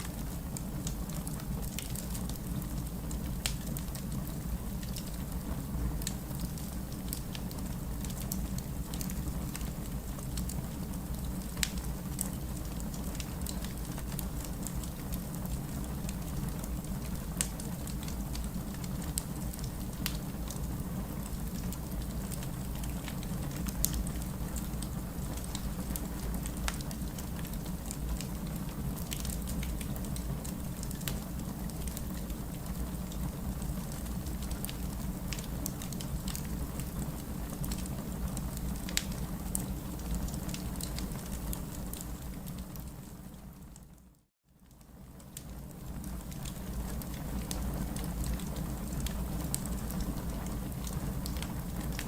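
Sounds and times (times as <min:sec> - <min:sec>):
wood fire crackling and popping: 0:00.0 - 0:44.0, 0:44.6 - 0:52.0
steady rain: 0:00.0 - 0:52.0.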